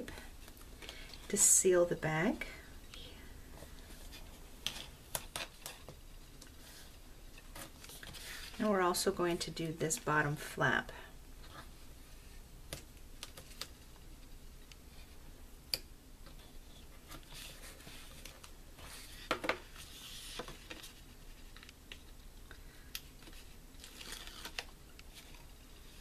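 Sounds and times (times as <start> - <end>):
soft paper rustles: 2.9 - 10.5, 11.4 - 15.2, 16.2 - 26.0.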